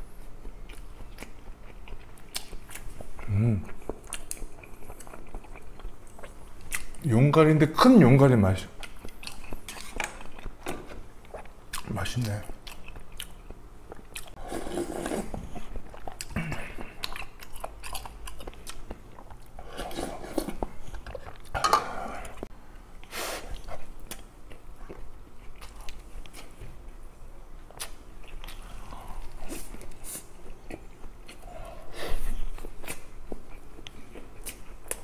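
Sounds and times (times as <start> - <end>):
chewing and crunching: 0.1 - 7.1, 8.7 - 22.5, 23.5 - 35.0.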